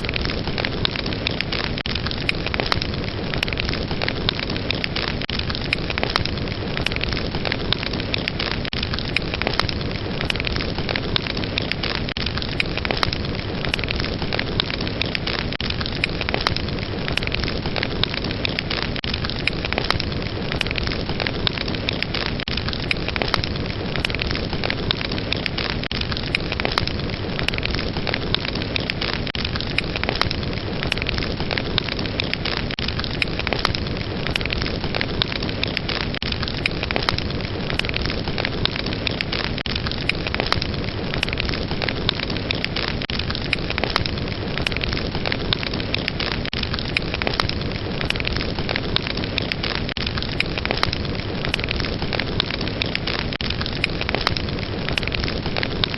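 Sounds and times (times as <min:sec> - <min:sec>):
fire crackling and rushing: 0:00.0 - 0:55.9.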